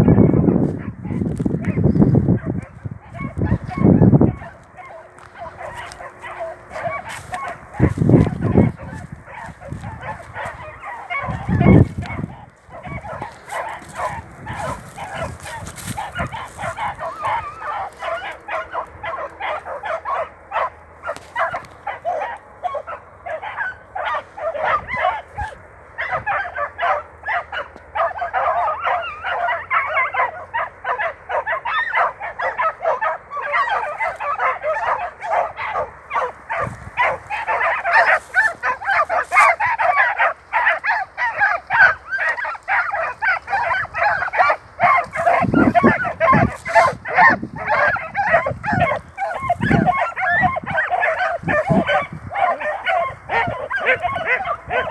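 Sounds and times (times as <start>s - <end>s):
chorus of animal calls: 0.0s - 54.9s.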